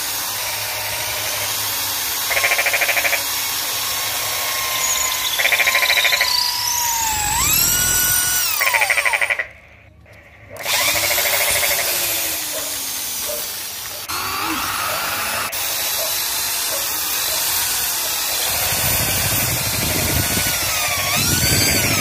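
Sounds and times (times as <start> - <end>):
electric drill boring into wood: 0.0 - 9.4, 10.5 - 22.0.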